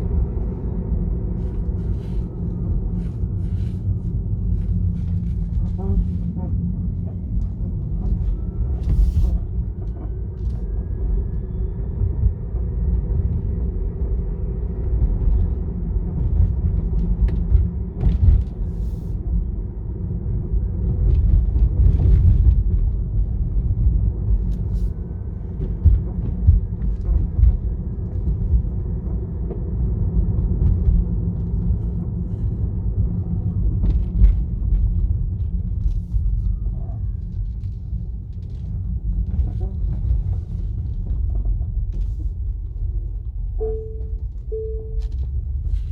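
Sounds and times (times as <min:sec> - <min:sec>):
car road rumble: 0:00.0 - 0:45.9.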